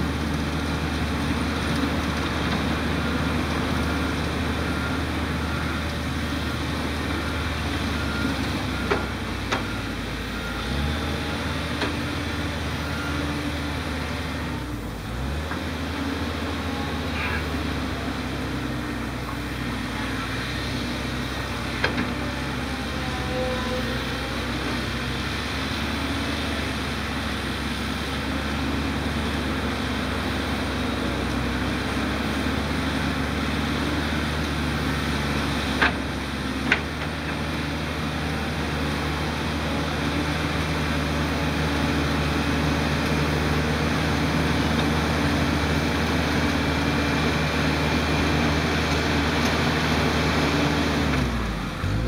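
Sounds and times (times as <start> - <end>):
diesel engines under load: 0.0 - 52.0.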